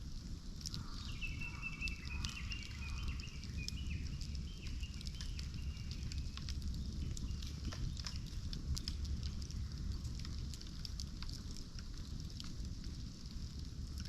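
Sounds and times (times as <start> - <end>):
campfire crackling: 0.0 - 14.0
low steady rumble: 0.0 - 14.0.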